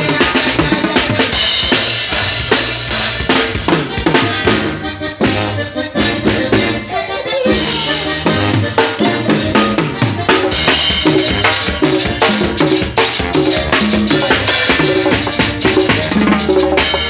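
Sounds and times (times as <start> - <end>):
drums: 0.0 - 17.0
walking bass line: 0.0 - 17.0.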